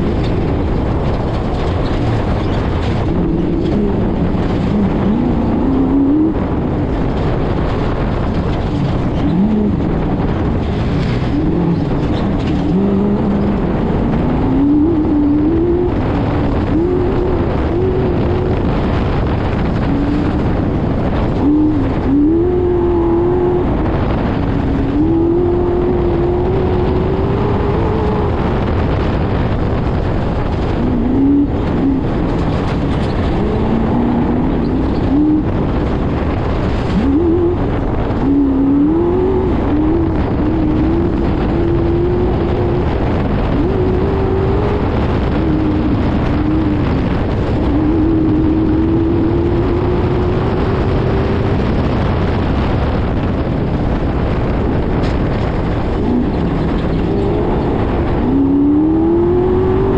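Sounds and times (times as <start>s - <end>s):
race car engine revving: 0.0s - 59.9s
rattling and road noise: 0.0s - 59.9s.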